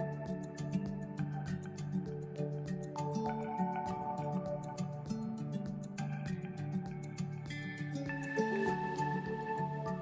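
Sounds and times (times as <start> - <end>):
mellow instrumental music: 0.0 - 10.0.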